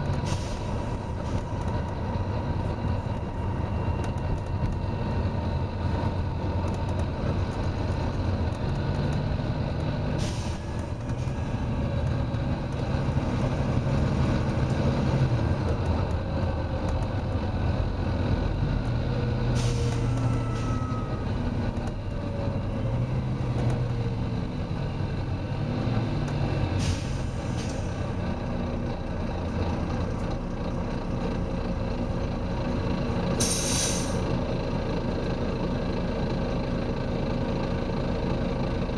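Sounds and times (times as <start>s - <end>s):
bus diesel engine under load: 0.0s - 38.9s.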